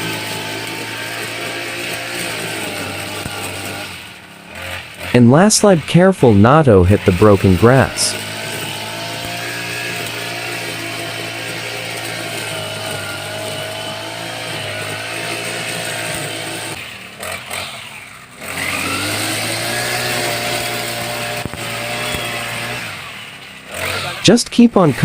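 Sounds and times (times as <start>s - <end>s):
grass cutter engine cutting grass: 0.0s - 25.0s.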